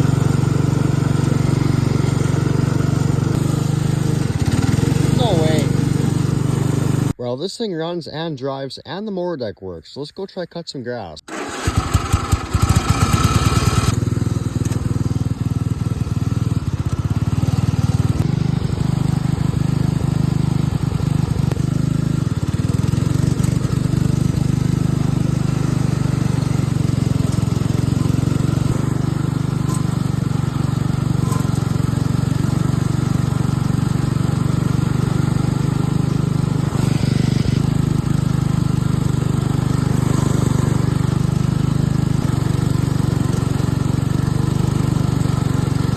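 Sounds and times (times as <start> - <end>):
lawn mower engine cutting grass: 0.0 - 7.2, 11.3 - 45.9.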